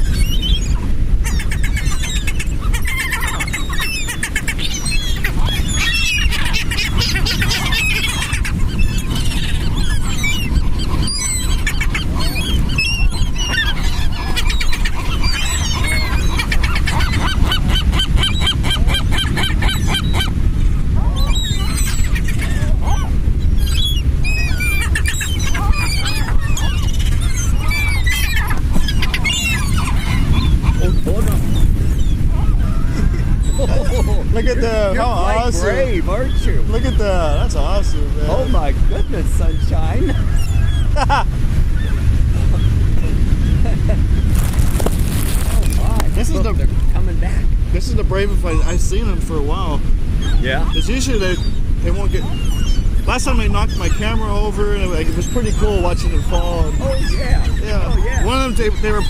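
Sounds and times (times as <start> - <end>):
seagulls calling: 0.0 - 59.0.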